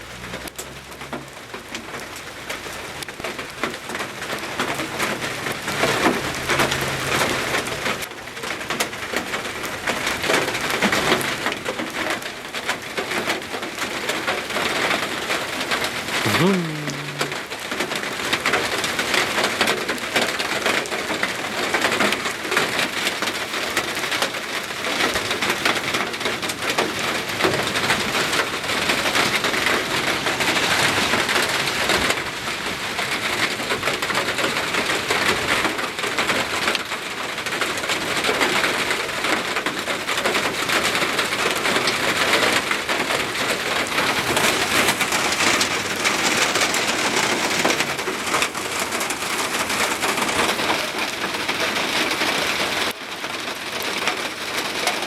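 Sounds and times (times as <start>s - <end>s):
hail and heavy rain pelting: 0.1s - 55.0s.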